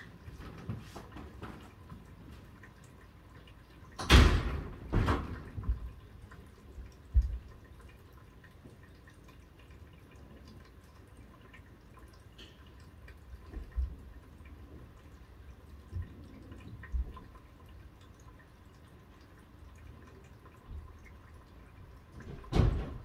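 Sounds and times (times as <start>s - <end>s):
drips and patters: 0.0s - 23.0s.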